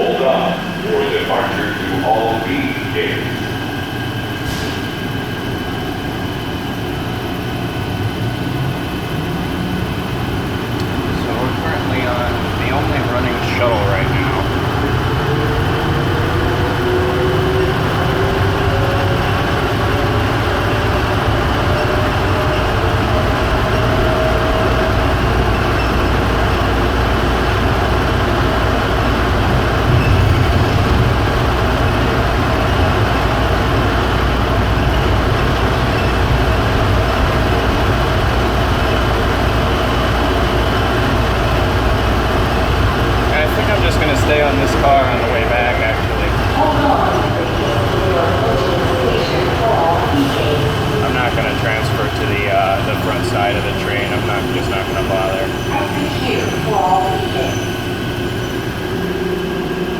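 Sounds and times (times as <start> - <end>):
train rumble and hiss: 0.0 - 59.9.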